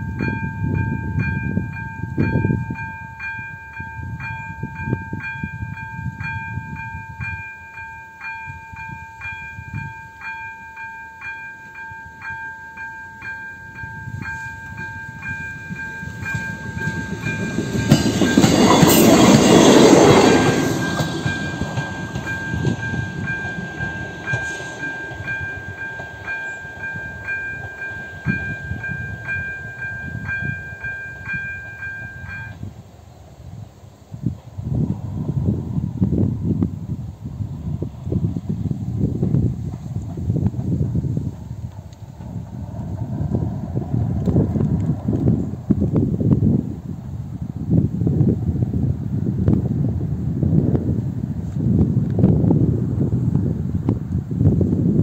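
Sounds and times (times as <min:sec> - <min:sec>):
train passing: 0:00.0 - 0:55.0.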